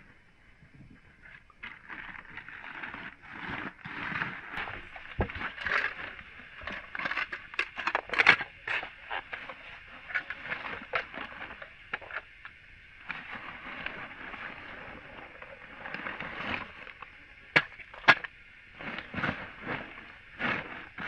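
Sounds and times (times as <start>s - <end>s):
rustling and scraping: 0.0s - 21.0s.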